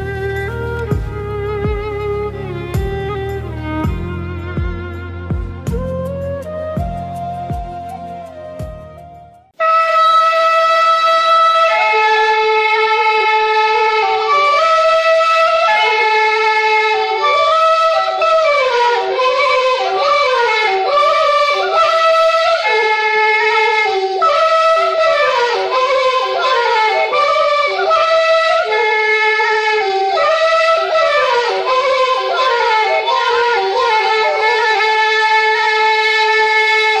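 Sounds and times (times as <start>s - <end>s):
wind instrument melody: 0.0s - 37.0s.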